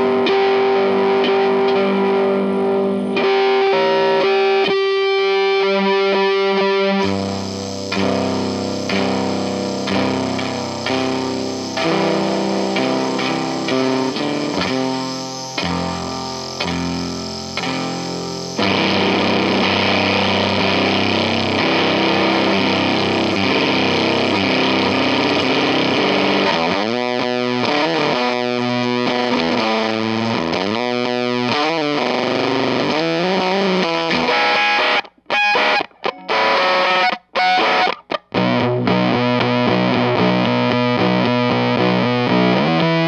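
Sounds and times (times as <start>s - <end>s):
fuzz distorted electric guitar: 0.0s - 43.0s.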